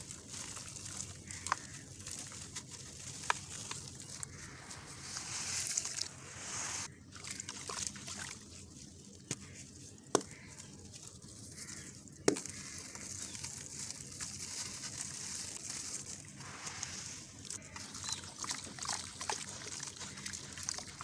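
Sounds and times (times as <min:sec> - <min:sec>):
gritty crackle: 0:00.0 - 0:07.0, 0:09.1 - 0:21.0
wet sloshing and trickling: 0:00.0 - 0:09.3, 0:13.0 - 0:21.0.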